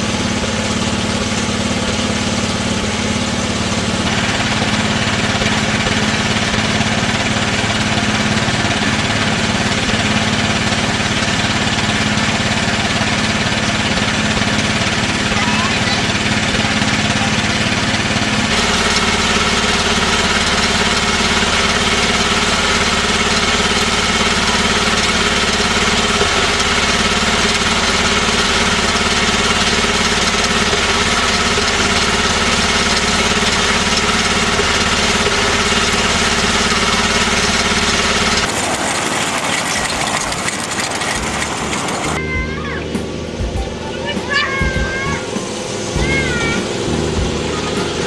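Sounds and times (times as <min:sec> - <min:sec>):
small petrol engine running: 0:00.0 - 0:48.0.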